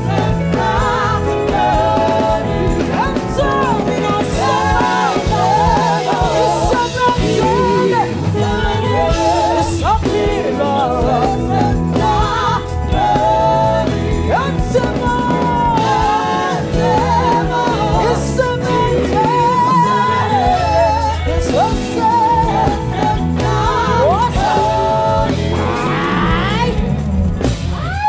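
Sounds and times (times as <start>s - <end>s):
band accompaniment with cymbals: 0.0s - 28.0s
gospel singing: 0.0s - 28.0s.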